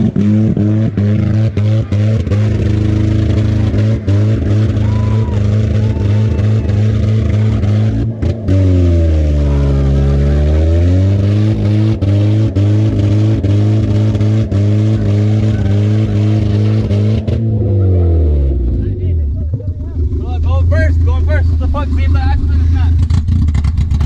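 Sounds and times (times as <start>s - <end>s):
car engine revving hard: 0.0s - 19.0s, 19.9s - 24.0s.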